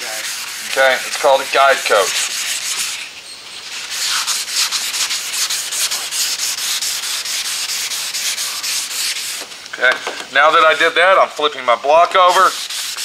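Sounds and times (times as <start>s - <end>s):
wet sandpaper rubbing: 0.0s - 9.5s, 10.4s - 13.0s.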